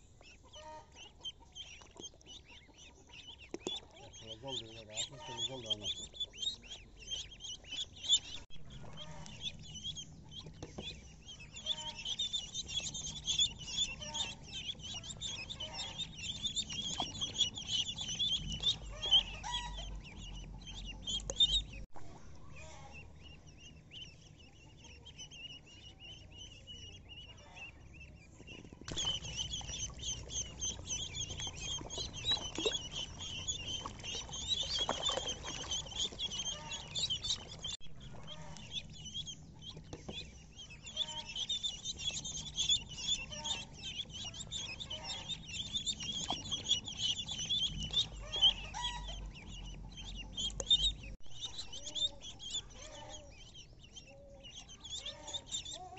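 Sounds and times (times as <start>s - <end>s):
ducklings peeping: 0.0s - 55.9s.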